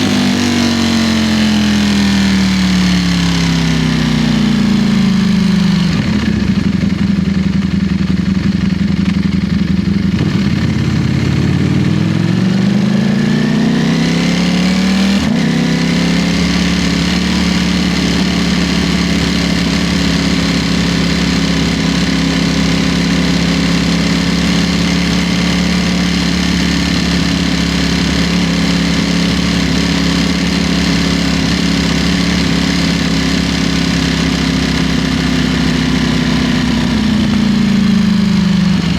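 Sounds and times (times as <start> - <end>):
motorcycle engine under way: 0.0 - 38.9.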